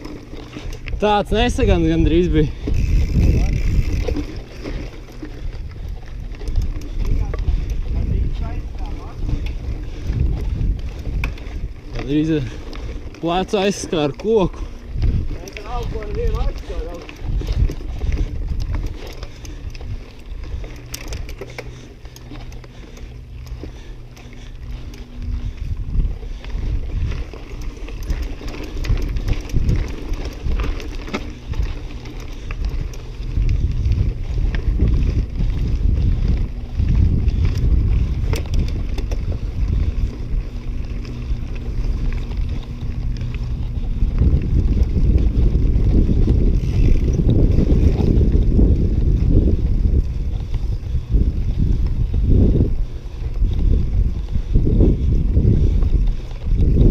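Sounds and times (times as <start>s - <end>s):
bike knocks and rattles: 0.0s - 56.9s
bike tyres rumbling over gravel: 0.0s - 56.9s
wind noise on microphone: 0.0s - 56.9s.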